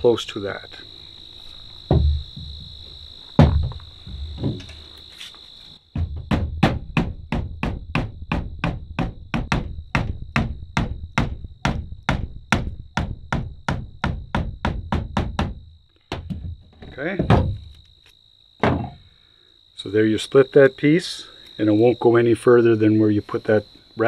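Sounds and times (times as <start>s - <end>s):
high insect buzz: 0.0s - 24.0s.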